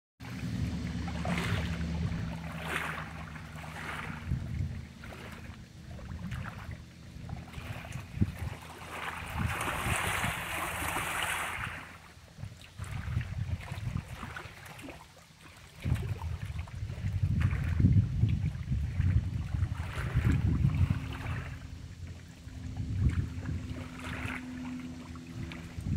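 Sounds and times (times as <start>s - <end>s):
wind buffeting microphone: 0.2s - 14.6s, 15.7s - 25.9s
low engine hum: 0.2s - 25.9s.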